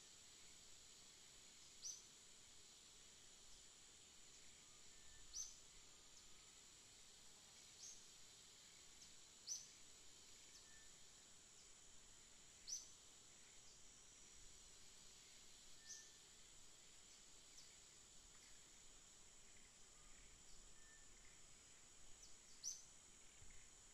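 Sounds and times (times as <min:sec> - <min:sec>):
insect drone: 0:00.0 - 0:23.9.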